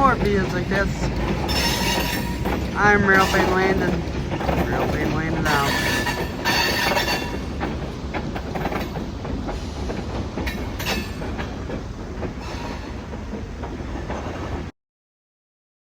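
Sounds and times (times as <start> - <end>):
freight train rumbling: 0.0 - 14.7
wheels clacking on rails: 0.0 - 14.7.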